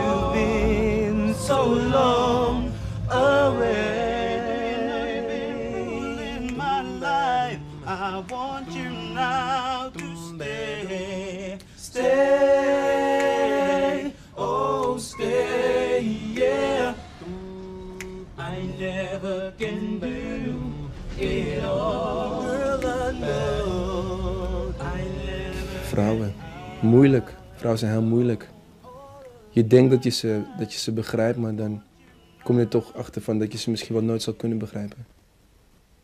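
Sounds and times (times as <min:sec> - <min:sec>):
male vocal group singing a cappella: 0:00.0 - 0:35.0.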